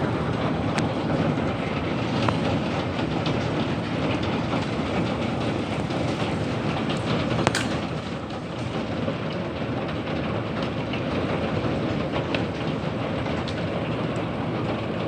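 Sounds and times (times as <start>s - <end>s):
hailstones ticking: 0.0s - 15.0s
wind and rain roaring: 0.0s - 15.0s.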